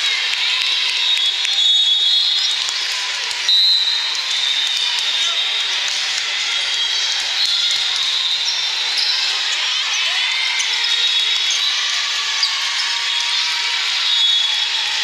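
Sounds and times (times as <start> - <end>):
crowd chatter: 0.0 - 15.0.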